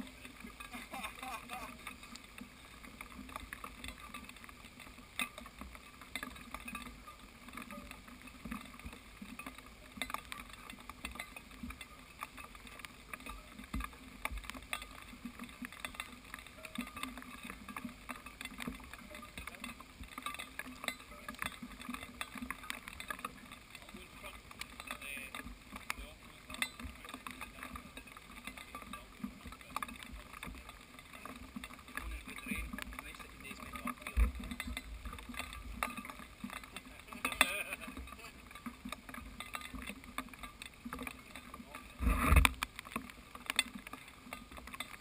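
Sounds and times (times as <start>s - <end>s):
raindrops tapping on camera housing: 0.0s - 45.0s.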